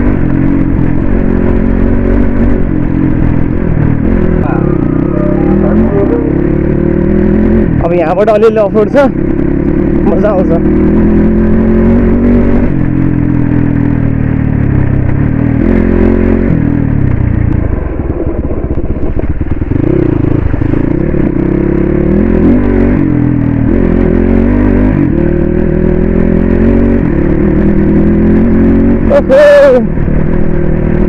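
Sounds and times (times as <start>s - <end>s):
dirt bike engine revving: 0.0s - 17.0s, 19.6s - 31.0s.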